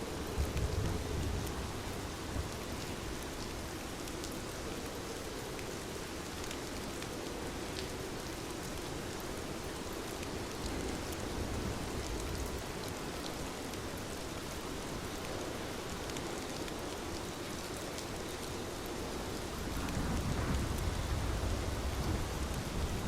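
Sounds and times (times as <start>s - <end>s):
rain on a window: 0.0s - 23.0s.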